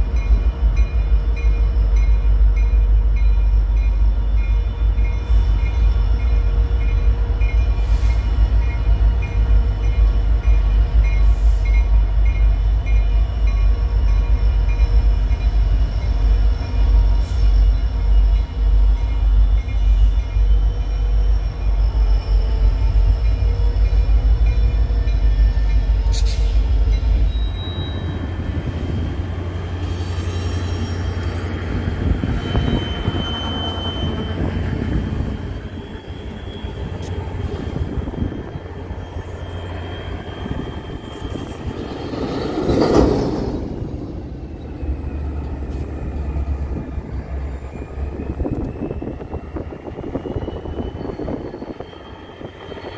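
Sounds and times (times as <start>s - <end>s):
diesel locomotive engine rumble: 0.0s - 52.9s
high wheel squeal: 7.4s - 28.5s, 29.7s - 52.9s.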